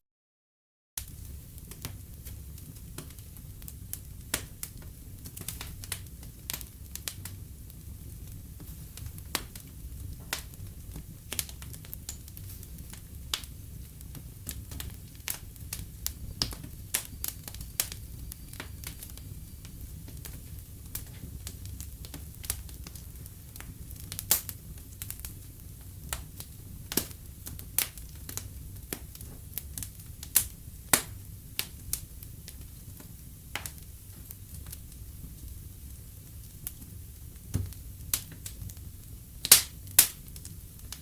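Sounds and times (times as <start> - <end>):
wood fire crackling and popping: 1.0 - 41.0.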